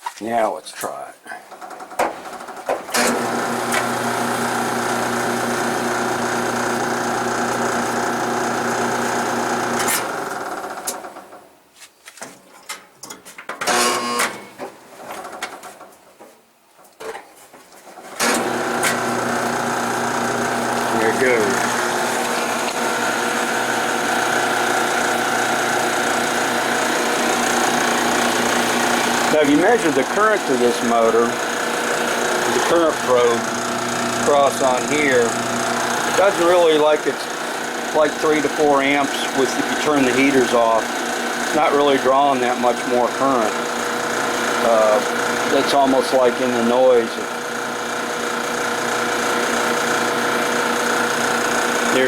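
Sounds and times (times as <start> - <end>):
electric dryer motor humming: 2.2 - 11.4, 18.1 - 52.0.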